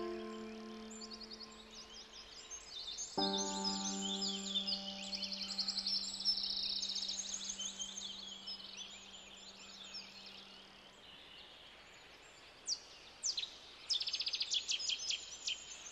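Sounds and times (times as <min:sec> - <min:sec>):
small birds singing: 0:00.0 - 0:15.9.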